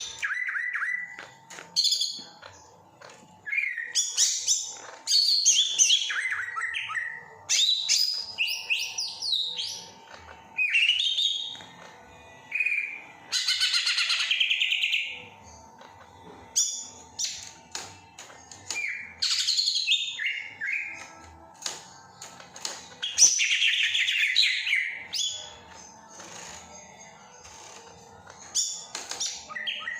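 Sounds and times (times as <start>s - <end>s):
bird singing: 0.0s - 2.5s, 3.4s - 11.7s, 12.5s - 17.6s, 18.6s - 21.3s, 23.0s - 29.9s.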